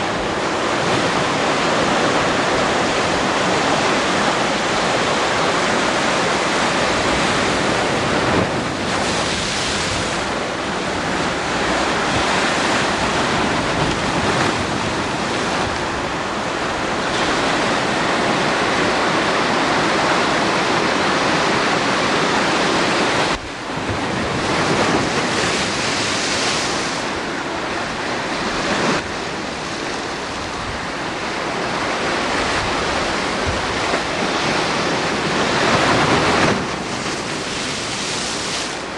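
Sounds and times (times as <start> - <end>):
ocean surf breaking: 0.0 - 38.9
wind on microphone: 0.0 - 38.9.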